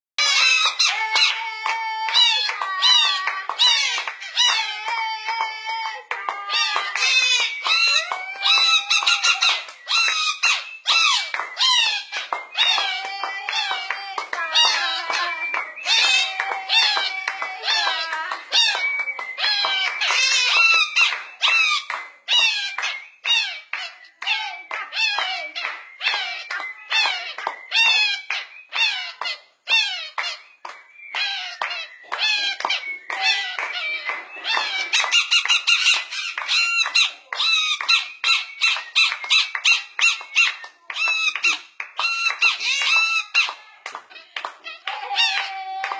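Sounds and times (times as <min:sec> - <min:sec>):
parrot squawky calls: 0:00.2 - 0:45.9.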